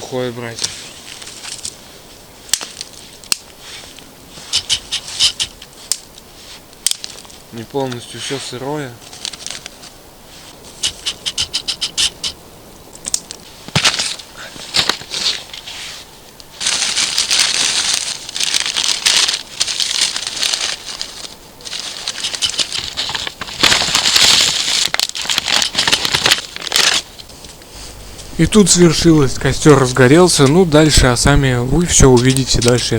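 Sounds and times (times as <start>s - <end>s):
twigs rustling and crackling: 0.4s - 32.9s.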